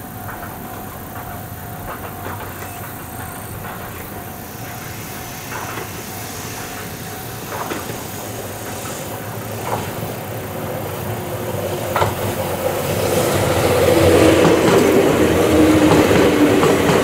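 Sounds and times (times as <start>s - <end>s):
train wheel clacks: 0.0s - 17.0s
train wheels rumbling on rails: 0.0s - 17.0s.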